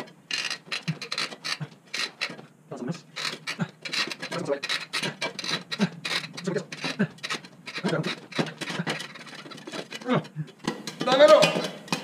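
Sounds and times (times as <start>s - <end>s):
wooden handle creaking: 0.0s - 2.5s, 3.1s - 12.0s.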